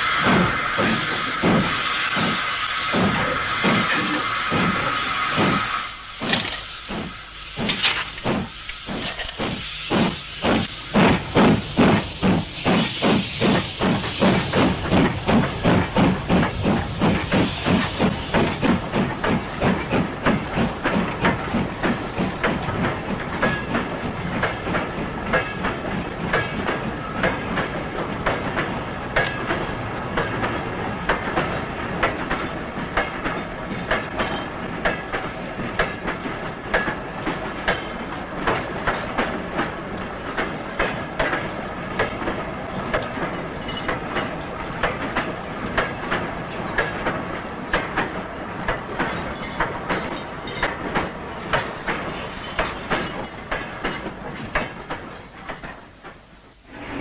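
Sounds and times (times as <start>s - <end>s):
steam hissing: 0.0s - 55.8s
steam locomotive chuffing: 0.0s - 57.0s
train wheels clicking on rail joints: 0.0s - 57.0s.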